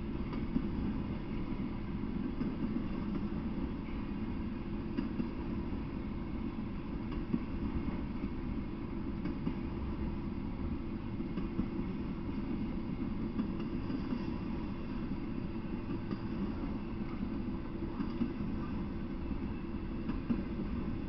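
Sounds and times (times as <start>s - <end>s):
freight train rumbling: 0.0s - 21.0s
sharp clicks of train: 0.0s - 21.0s.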